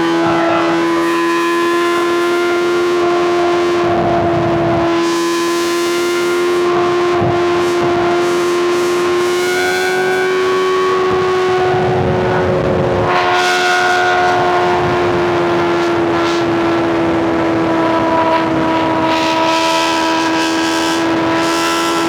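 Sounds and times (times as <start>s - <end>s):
motorcycle engine at high revs: 0.0s - 22.0s
wind and road noise: 0.0s - 22.0s.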